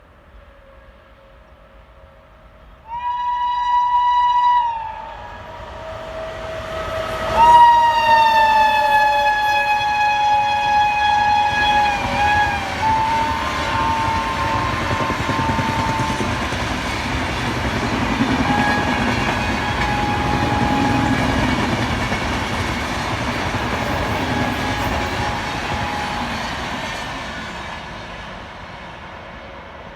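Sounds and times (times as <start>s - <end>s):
passing train rumbling: 0.0s - 29.9s
shrill locomotive horn: 0.4s - 22.1s, 23.0s - 27.1s.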